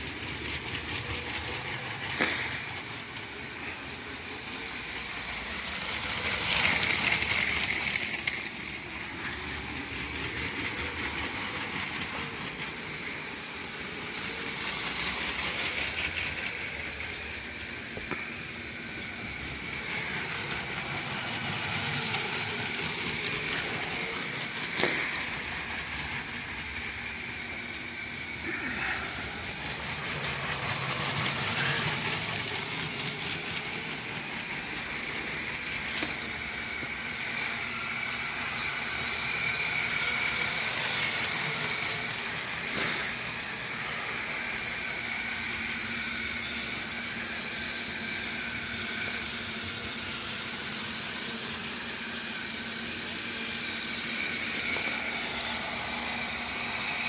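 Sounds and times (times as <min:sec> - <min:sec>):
toy train motors whirring: 0:00.0 - 0:57.0.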